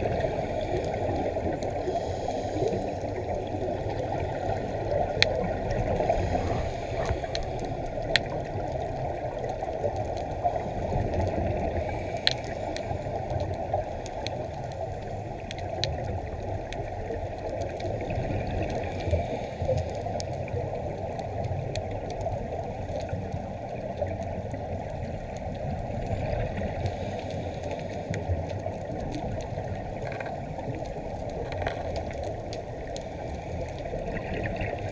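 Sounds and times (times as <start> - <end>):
exhaled bubbles gurgling: 0.0 - 34.9
underwater rumble of water: 0.0 - 34.9.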